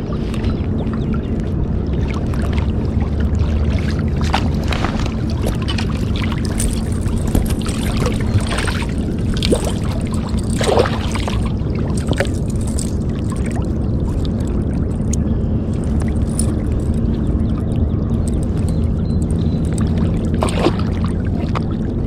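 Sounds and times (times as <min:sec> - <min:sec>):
low rumble: 0:00.0 - 0:22.0
water splashing and sloshing: 0:00.0 - 0:22.0.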